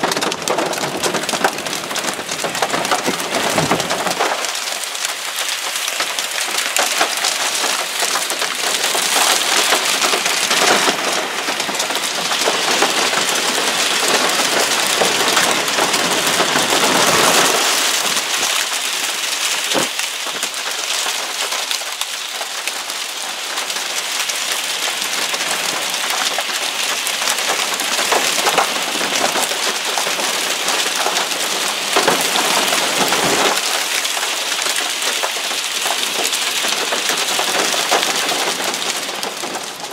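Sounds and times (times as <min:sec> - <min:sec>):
heavy rain and hail pelting: 0:00.0 - 0:39.9
sharp hail knocks: 0:00.0 - 0:39.9.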